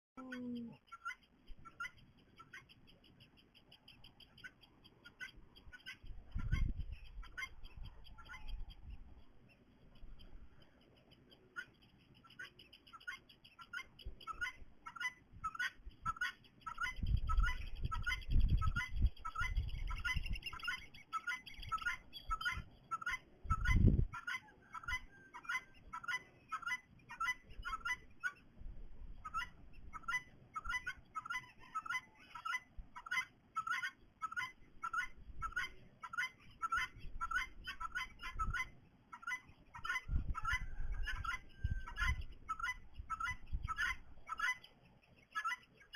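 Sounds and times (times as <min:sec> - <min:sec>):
bird chirping: 0:00.2 - 0:45.9.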